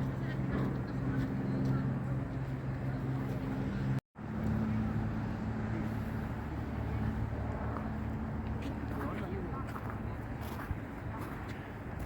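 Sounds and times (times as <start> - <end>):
low engine-like hum: 0.0 - 12.0
traffic noise: 0.0 - 12.0.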